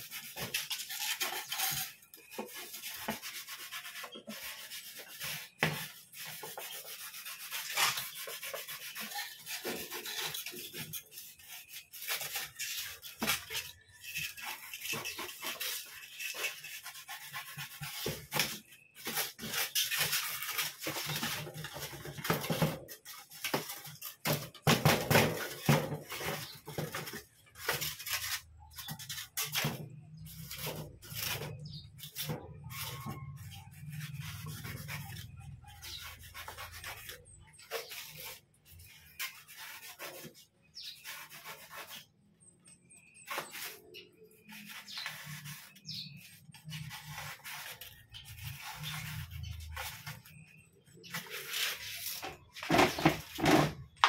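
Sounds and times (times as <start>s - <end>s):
knife blade sawing styrofoam: 0.0s - 42.2s, 43.1s - 54.0s.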